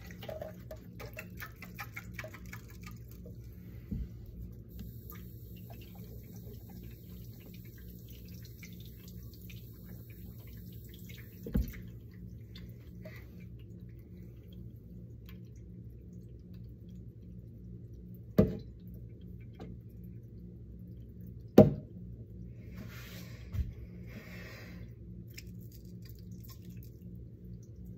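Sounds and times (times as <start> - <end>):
water dripping and trickling: 0.0 - 22.5, 25.2 - 27.9
steady low hum: 0.0 - 27.9.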